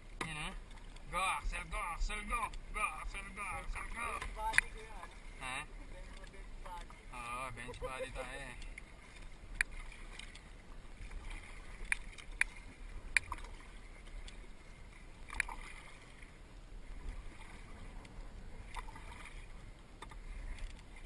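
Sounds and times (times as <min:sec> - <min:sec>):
paddle strokes splashing water: 0:00.0 - 0:21.0.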